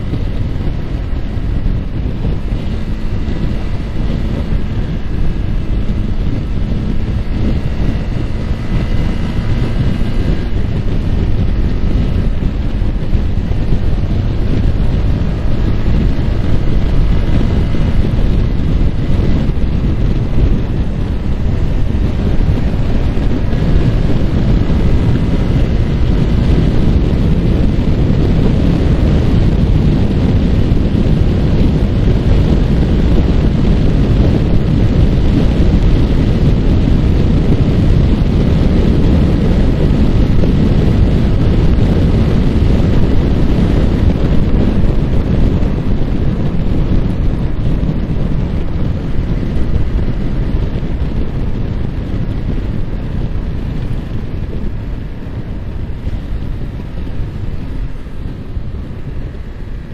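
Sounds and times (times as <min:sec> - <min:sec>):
faint motorcycle engine: 0:00.0 - 0:59.9
wind buffeting microphone: 0:00.0 - 0:59.9.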